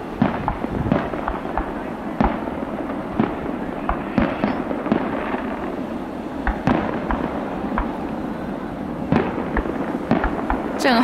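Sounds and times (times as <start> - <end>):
continuous noisy background: 0.0 - 11.0
fireworks bangs: 0.0 - 11.0.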